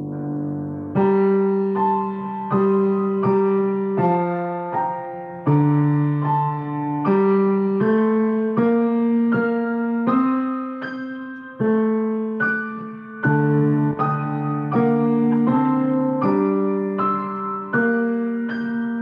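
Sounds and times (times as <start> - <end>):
slow solo piano piece: 0.0 - 19.0.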